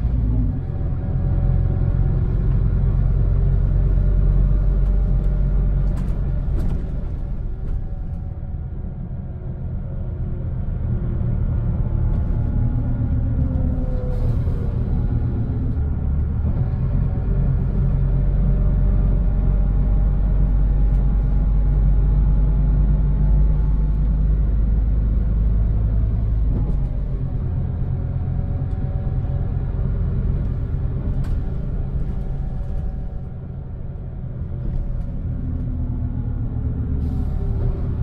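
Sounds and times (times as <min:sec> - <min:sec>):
bus engine low rumble: 0:00.0 - 0:38.0.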